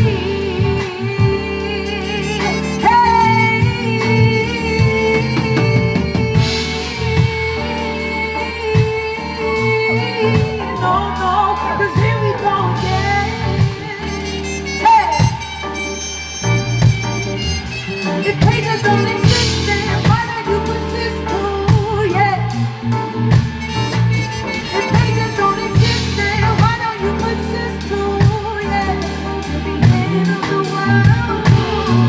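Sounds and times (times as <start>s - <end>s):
live band music: 0.0s - 32.0s
woman singing: 0.0s - 32.0s.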